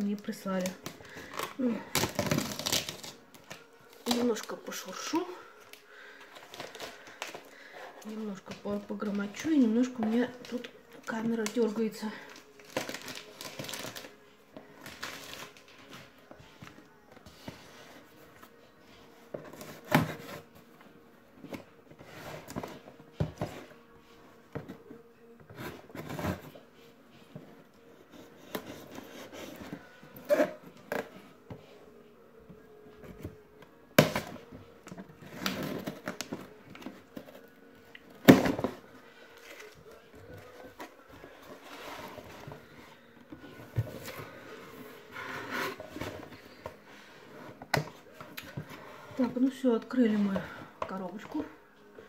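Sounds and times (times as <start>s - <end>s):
cardboard and wrapping rustling: 0.0s - 52.0s.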